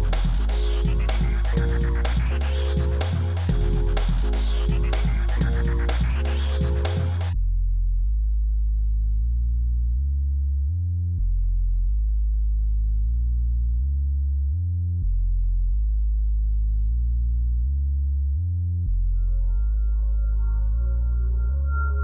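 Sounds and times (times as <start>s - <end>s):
deep synth bass line: 0.0s - 22.0s.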